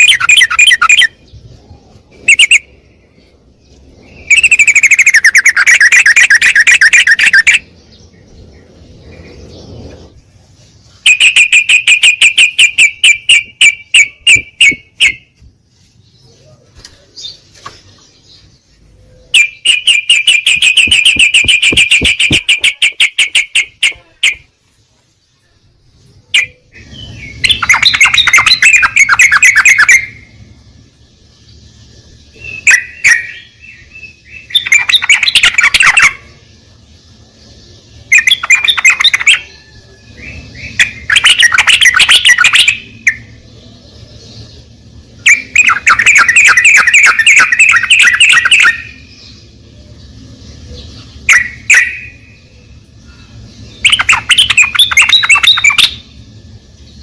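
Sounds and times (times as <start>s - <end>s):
bird chattering: 0.0s - 10.2s, 10.9s - 15.4s, 19.2s - 24.6s, 26.3s - 31.0s, 32.2s - 57.0s
bird trilling: 0.0s - 10.2s, 11.0s - 15.4s, 16.4s - 24.6s, 26.3s - 31.2s, 32.2s - 36.6s, 37.6s - 57.0s
faint low hum: 0.0s - 57.0s.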